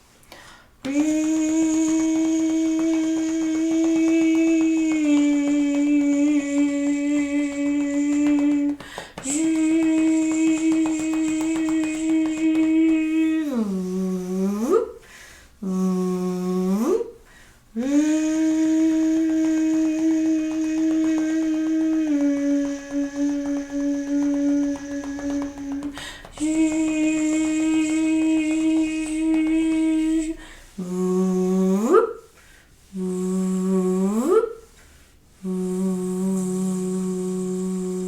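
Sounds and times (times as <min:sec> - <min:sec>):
woman humming held notes: 0:00.8 - 0:15.0, 0:15.6 - 0:17.2, 0:17.8 - 0:32.3, 0:32.9 - 0:34.7, 0:35.4 - 0:38.0.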